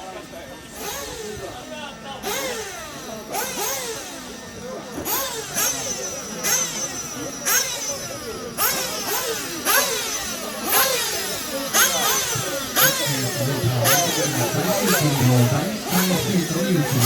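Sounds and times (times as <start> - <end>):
model buggy engines revving: 0.0 - 17.0.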